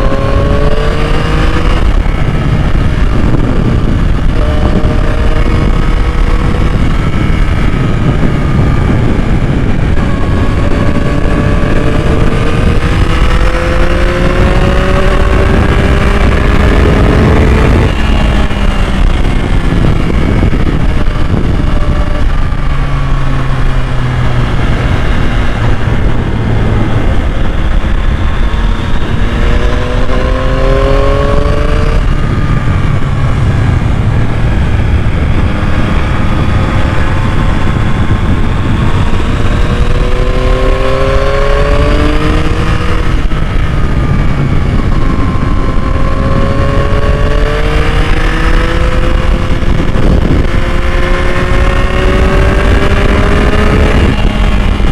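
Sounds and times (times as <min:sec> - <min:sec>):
motorcycle engine revving: 0:00.0 - 0:54.9
wind and road rumble: 0:00.0 - 0:54.9.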